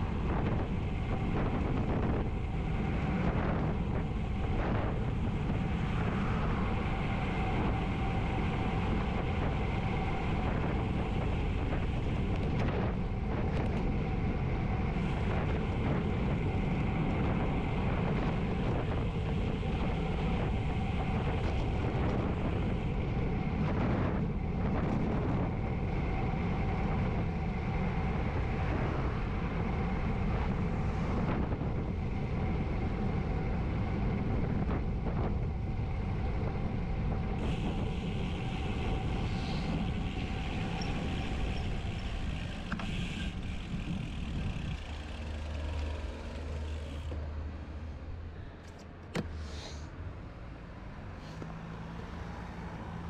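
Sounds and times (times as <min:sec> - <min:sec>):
wind buffeting microphone: 0:00.0 - 0:47.3
road and tyre noise: 0:00.0 - 0:53.0.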